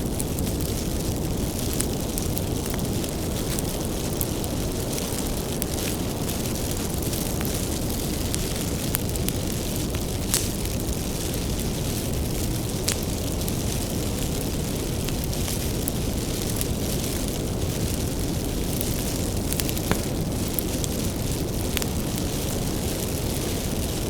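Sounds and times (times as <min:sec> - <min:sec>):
flames roaring: 0:00.0 - 0:24.0
wood crackling and popping: 0:00.0 - 0:24.0.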